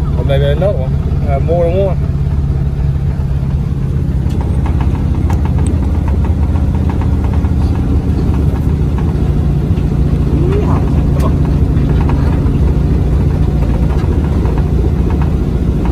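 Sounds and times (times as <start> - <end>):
car engine running: 0.0 - 15.9
light rattles and clicks: 2.6 - 15.9.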